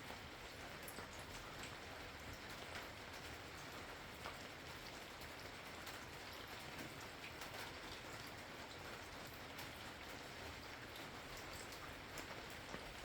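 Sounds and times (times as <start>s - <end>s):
rain pattering and dripping: 0.0s - 13.0s.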